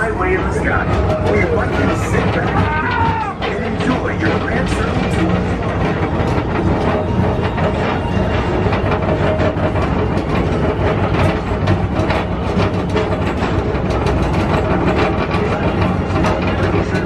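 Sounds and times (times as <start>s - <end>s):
people mover car rolling on track: 0.0s - 17.0s.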